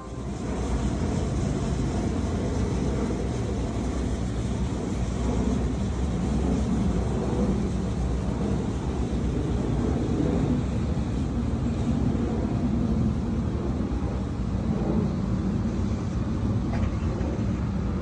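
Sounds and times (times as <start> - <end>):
low fluttering rumble with hiss: 0.0 - 18.0.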